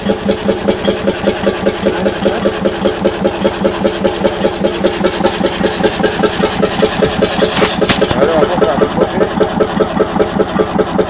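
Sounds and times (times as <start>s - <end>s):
boat engine pulsing: 0.0s - 11.0s.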